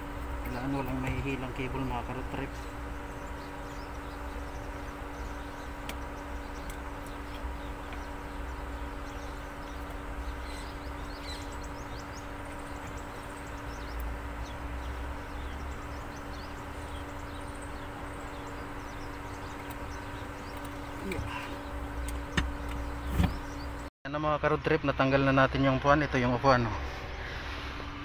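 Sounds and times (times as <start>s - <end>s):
small birds chirping: 0.0s - 23.9s
mechanical hum with low rumble: 0.0s - 28.0s.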